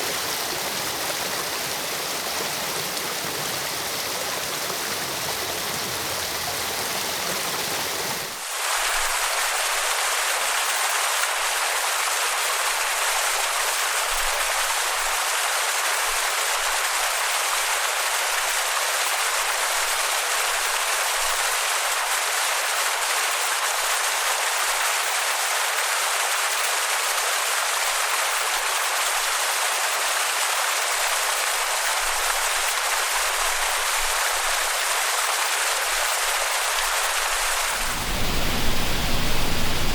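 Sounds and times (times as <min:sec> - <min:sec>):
falling water rushing: 0:00.0 - 0:39.9.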